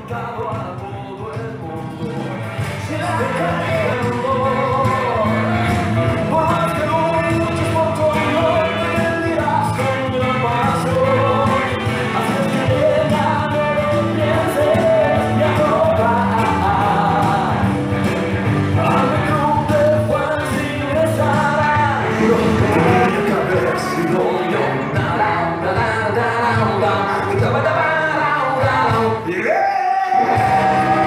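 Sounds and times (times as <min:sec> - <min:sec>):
dance song with sung vocal: 0:00.0 - 0:31.0.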